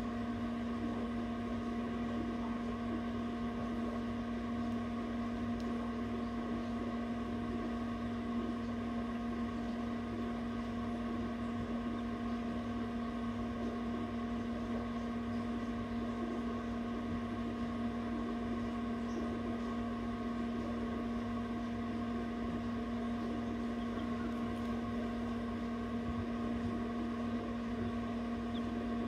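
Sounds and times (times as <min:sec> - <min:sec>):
egg incubator humming: 0:00.0 - 0:29.0.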